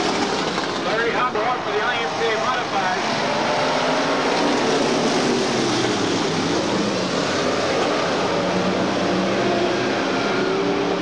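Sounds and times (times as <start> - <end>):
racing car engines roaring: 0.0 - 11.0.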